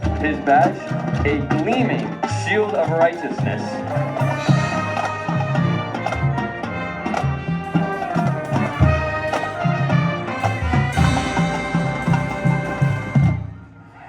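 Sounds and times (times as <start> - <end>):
drum strokes: 0.0 - 13.6
brass sustained chords: 0.0 - 14.0.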